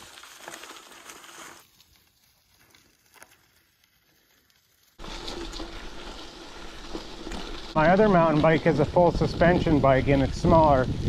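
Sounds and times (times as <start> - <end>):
bicycle tyres rolling over leaves: 0.0 - 11.0.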